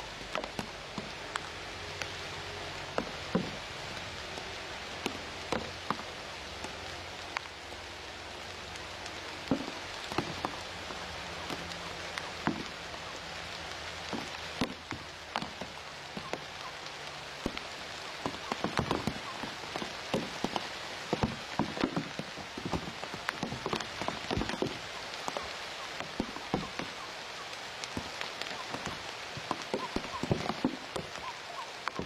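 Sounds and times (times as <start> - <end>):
rain pattering on leaves: 0.0 - 32.0.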